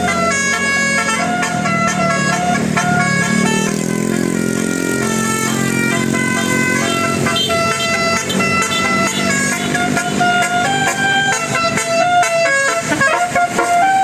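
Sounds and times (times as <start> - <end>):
bus horn playing stepped tune: 0.0 - 14.0
diesel engine running: 0.0 - 14.0.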